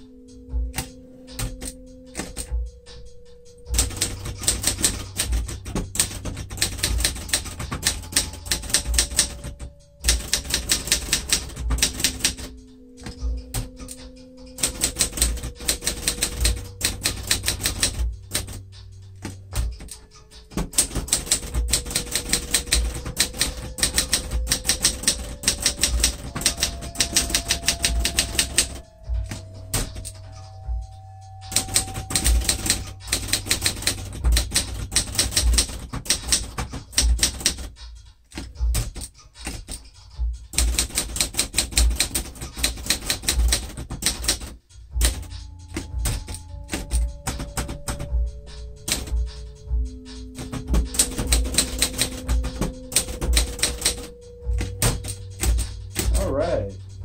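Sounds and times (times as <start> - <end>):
typewriter key strikes: 0.7 - 2.7, 3.7 - 30.5, 31.4 - 56.6.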